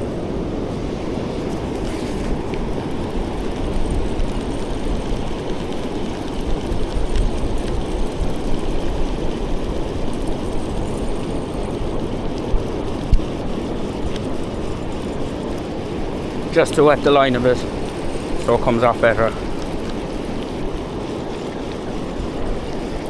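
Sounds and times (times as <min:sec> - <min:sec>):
beach surf: 0:00.0 - 0:23.0
wind buffeting microphone: 0:00.0 - 0:23.0.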